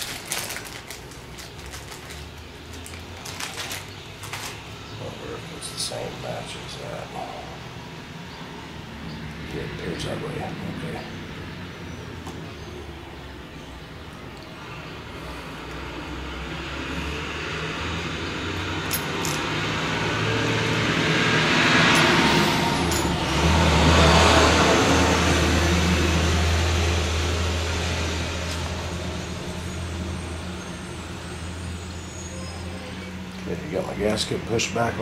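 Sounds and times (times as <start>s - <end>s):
motor vehicle passing: 1.4s - 32.3s.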